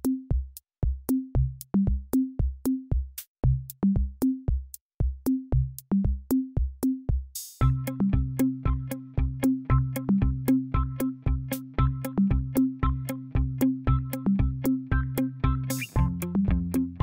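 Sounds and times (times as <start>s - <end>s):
electronic music beat: 0.0s - 17.0s.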